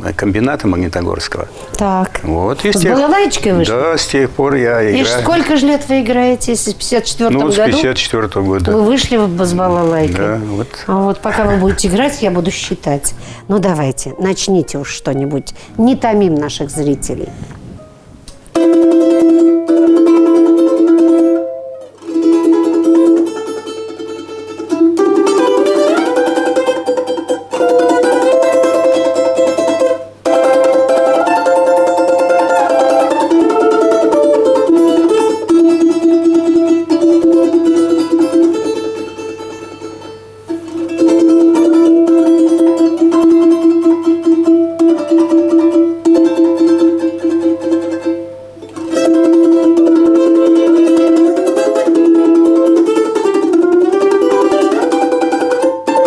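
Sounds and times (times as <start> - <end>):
balalaika tremolo melody: 0.0 - 56.0.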